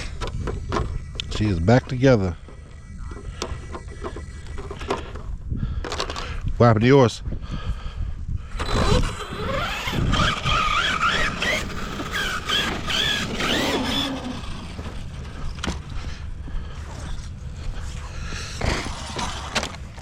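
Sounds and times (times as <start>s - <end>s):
electric motor whine: 0.0s - 5.2s, 8.6s - 20.0s
low rumbling wind noise: 0.0s - 20.0s.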